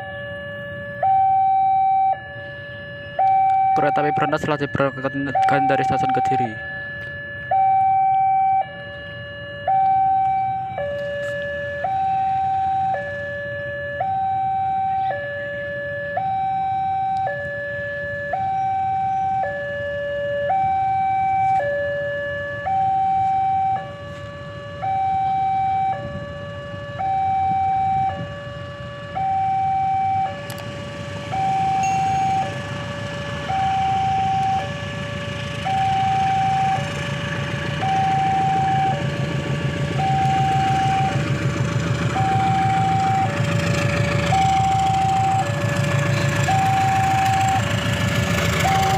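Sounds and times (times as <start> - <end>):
two-tone electronic siren: 0.0 - 48.9.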